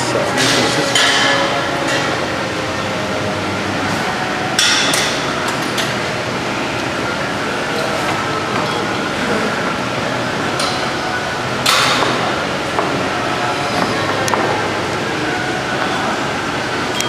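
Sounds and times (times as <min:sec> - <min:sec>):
gym background noise: 0:00.0 - 0:17.0.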